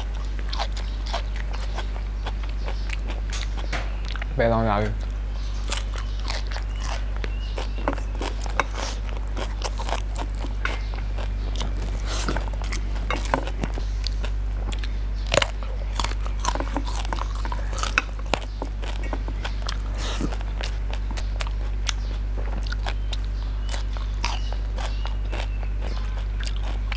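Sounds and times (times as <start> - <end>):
chewing crisp vegetables: 0.0 - 26.9
steady low hum: 0.0 - 26.9.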